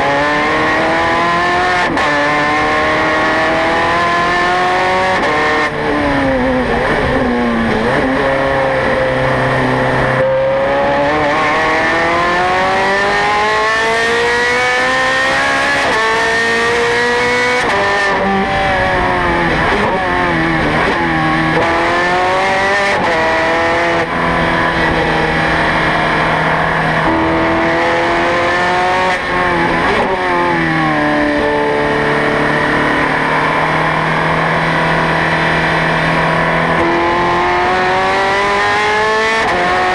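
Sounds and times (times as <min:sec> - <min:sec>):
car engine revving high: 0:00.0 - 0:39.9.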